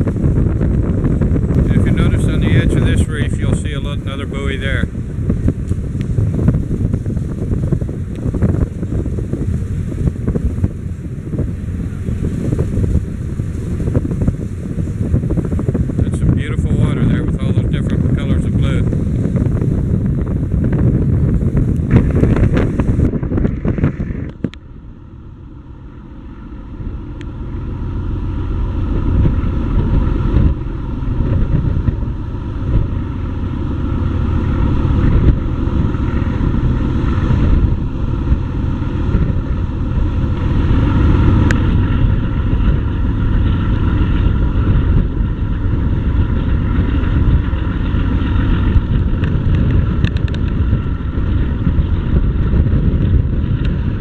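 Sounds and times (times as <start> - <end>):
ship engine drone: 0.0 - 54.0
wind buffeting microphone: 0.0 - 54.0.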